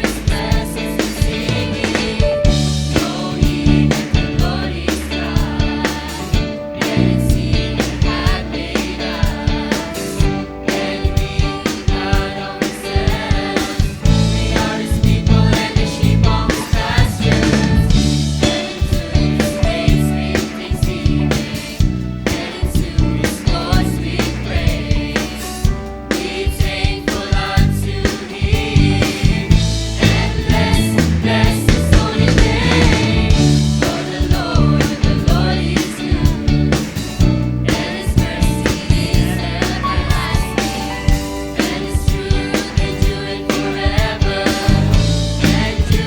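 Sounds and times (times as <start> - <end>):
instrumental accompaniment: 0.0 - 46.0
steady drum beat: 0.0 - 46.0
youth choir singing gospel: 0.0 - 46.0.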